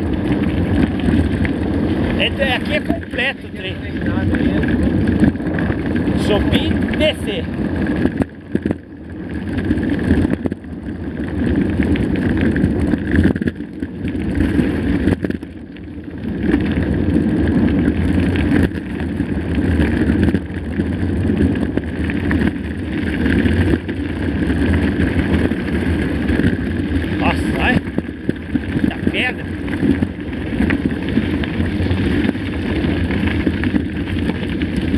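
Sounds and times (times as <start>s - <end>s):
bike tyres rolling over ground: 0.0s - 34.9s
wind rumbling on microphone: 0.0s - 34.9s.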